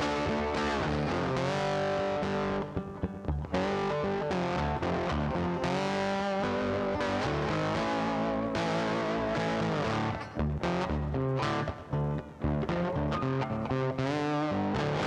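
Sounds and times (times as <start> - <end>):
distorted electric guitar rock: 0.0 - 15.0.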